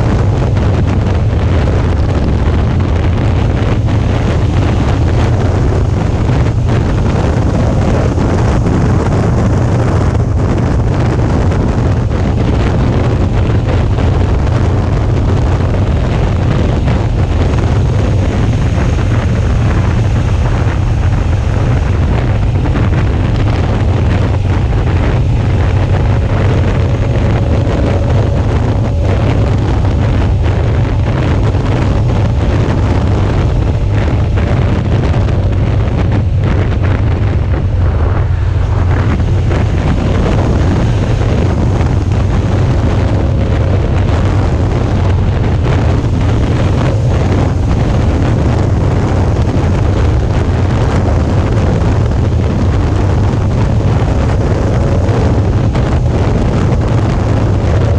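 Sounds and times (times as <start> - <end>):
motorcycle engine hum: 0.0 - 57.9
wind buffeting microphone: 0.0 - 57.9.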